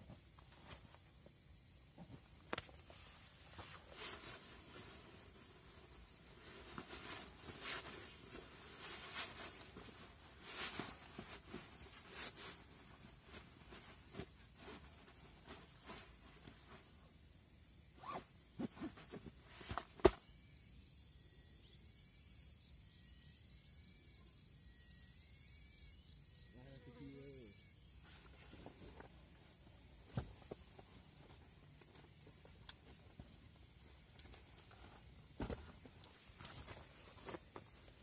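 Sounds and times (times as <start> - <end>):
insect chirps: 0.0 - 38.0
insects trilling: 0.0 - 38.0.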